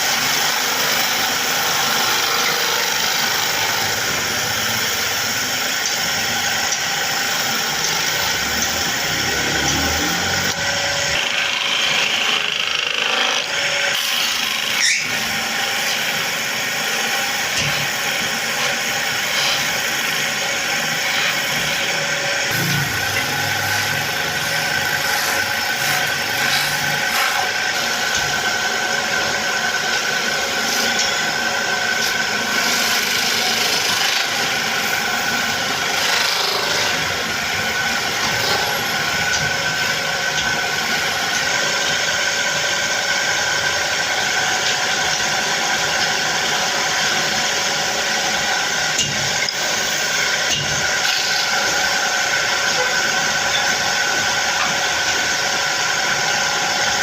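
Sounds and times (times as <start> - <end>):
woodworking machine whine: 0.0 - 57.0.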